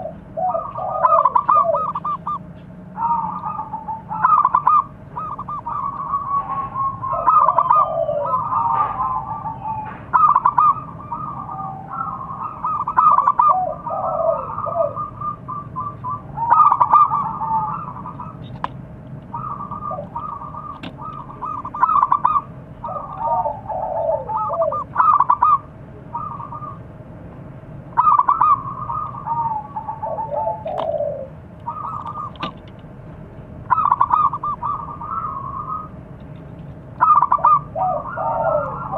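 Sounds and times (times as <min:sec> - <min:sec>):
dove cooing: 0:00.0 - 0:26.9, 0:28.0 - 0:32.7, 0:33.4 - 0:36.0, 0:37.0 - 0:38.9.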